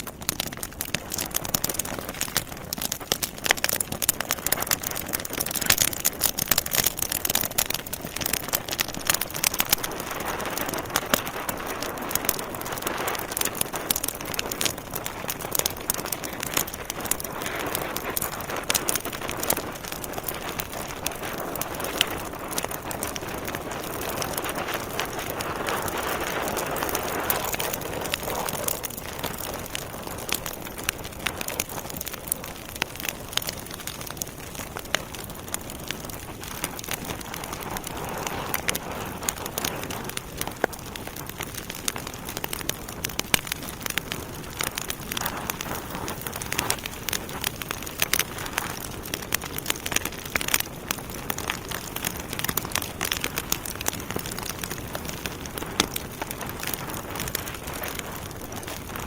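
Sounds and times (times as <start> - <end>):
logs crackling and popping: 0.0 - 59.0
flame hissing: 0.4 - 59.0.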